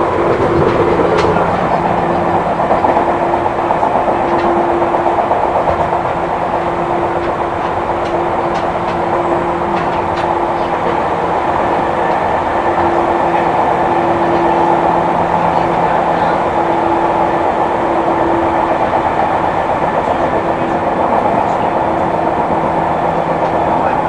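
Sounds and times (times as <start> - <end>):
train humming tone: 0.0 - 24.0
train wheels rumbling on rail: 0.0 - 24.0.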